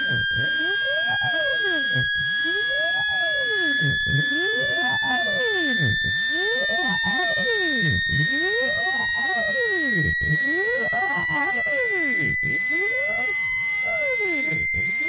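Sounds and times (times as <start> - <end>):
electronic pitch sweeps: 0.0 - 15.0.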